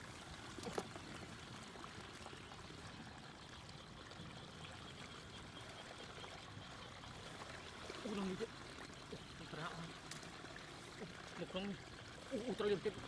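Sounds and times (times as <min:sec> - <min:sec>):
water flowing: 0:00.0 - 0:13.0.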